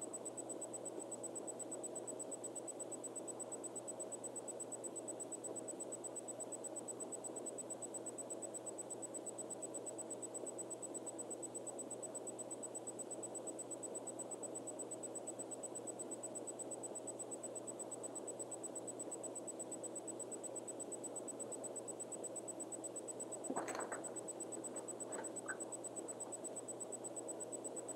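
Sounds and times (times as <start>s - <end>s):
background hiss and hum: 0.0s - 27.9s
faint high-pitched whine: 0.0s - 27.9s.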